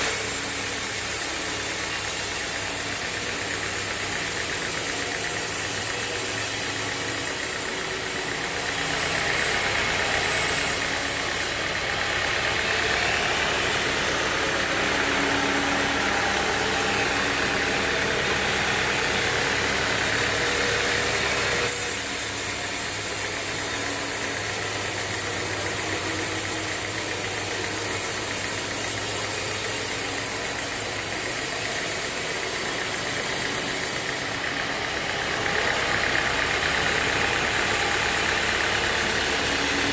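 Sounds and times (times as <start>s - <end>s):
band sawmill drone with rattle: 0.0s - 39.9s.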